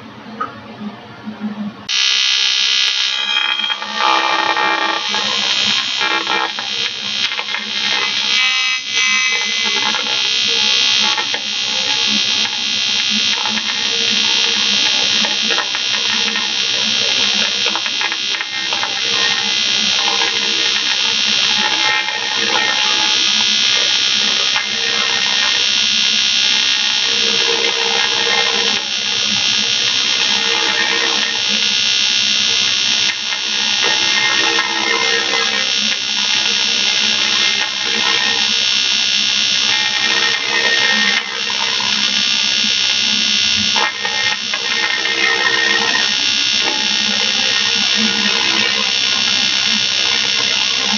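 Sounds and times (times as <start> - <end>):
welding arc buzzing: 1.9 - 50.9.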